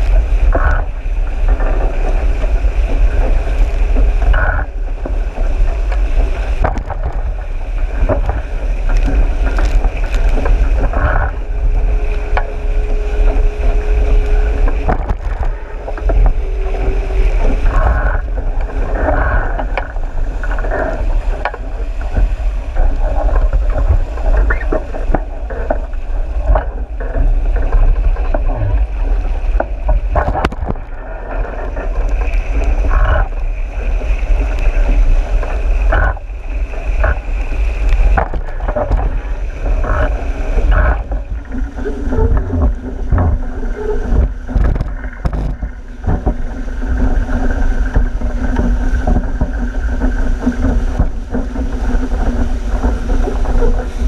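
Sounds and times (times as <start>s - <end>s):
thin steady whine: 0.0s - 54.0s
water rushing past hull: 0.0s - 54.0s
waves slapping hull: 0.0s - 54.0s
wind buffeting microphone: 0.0s - 54.0s.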